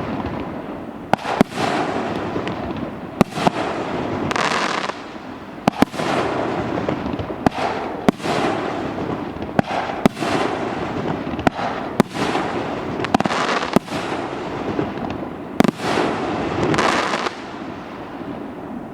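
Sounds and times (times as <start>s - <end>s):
firework reports: 0.0s - 18.9s
hissing crackling firework bursts: 0.0s - 18.9s.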